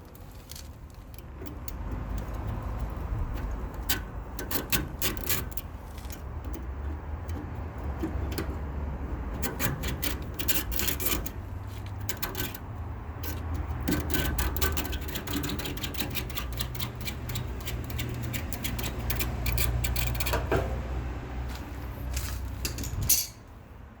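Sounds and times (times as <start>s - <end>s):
comb clicking and scraping on fins: 0.0s - 20.5s.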